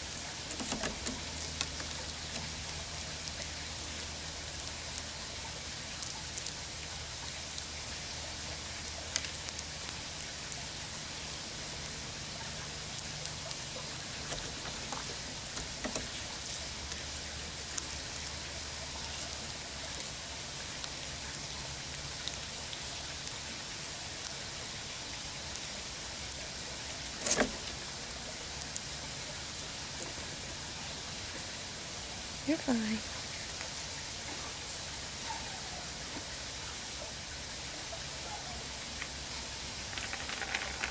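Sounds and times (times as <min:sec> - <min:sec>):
squirrel cracking seed shells: 0:00.0 - 0:31.4, 0:39.0 - 0:40.9
steady hiss: 0:00.0 - 0:40.9.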